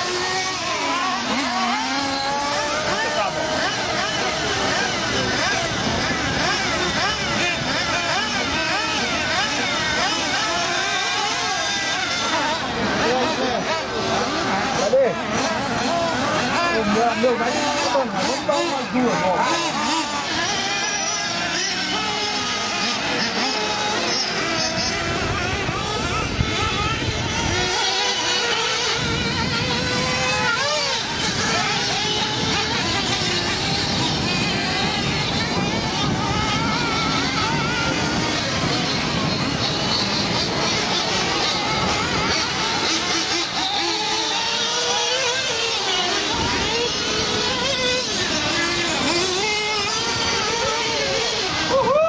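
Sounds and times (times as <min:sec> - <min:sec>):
rc car engines revving: 0:00.0 - 0:52.0.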